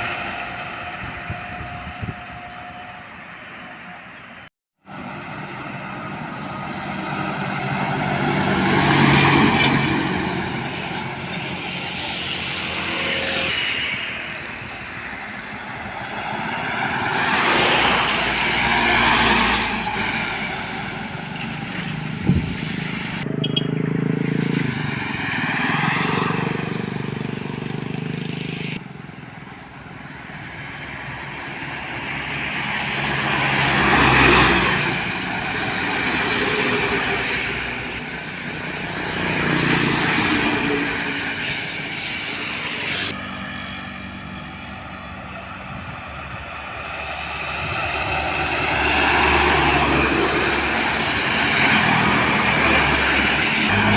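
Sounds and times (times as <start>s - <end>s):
trucks and buses driving past: 0.0s - 53.9s.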